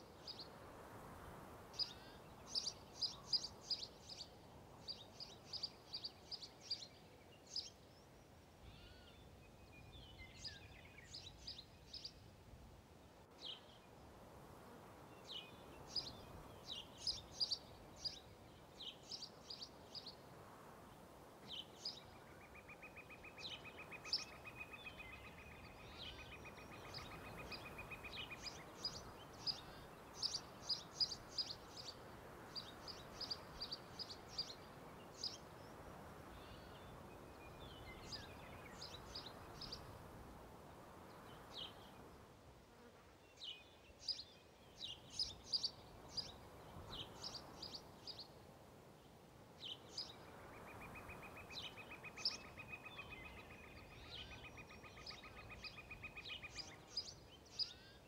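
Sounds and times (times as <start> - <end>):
steady background hiss: 0.0 - 58.0
small birds chirping: 1.8 - 12.2, 15.2 - 20.3, 21.4 - 40.1, 43.3 - 48.4, 49.6 - 58.0.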